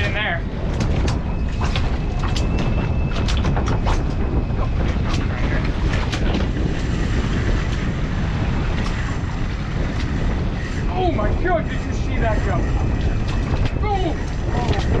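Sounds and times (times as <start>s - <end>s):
outboard motors running: 0.0s - 15.0s
wind buffeting microphone: 0.0s - 15.0s.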